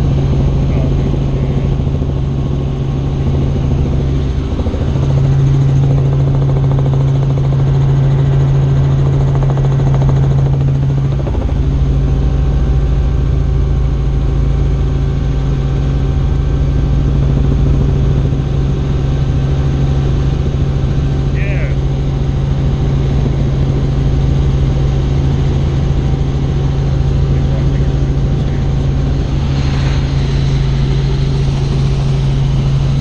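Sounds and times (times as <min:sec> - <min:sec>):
helicopter rotor drone: 0:00.0 - 0:33.0.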